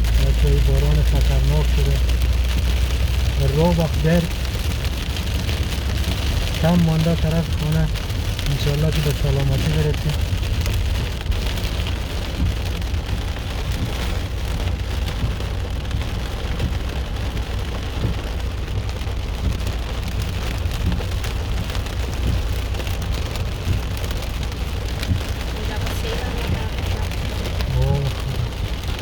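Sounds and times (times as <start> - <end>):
heavy rain: 0.0 - 29.0
low rumble: 0.0 - 29.0.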